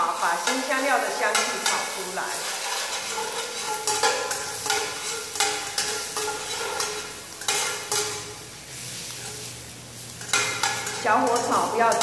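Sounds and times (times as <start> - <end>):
oil sizzling: 0.0 - 12.0
ladle scraping metal wok: 0.1 - 12.0.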